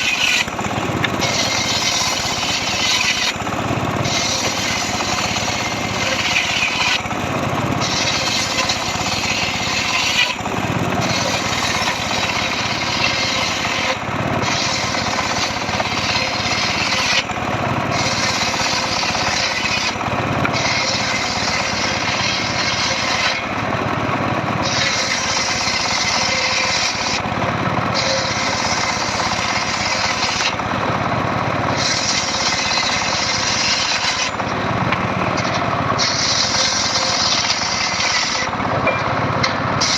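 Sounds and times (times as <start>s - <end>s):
engine-driven saw cutting wood: 0.0s - 39.9s.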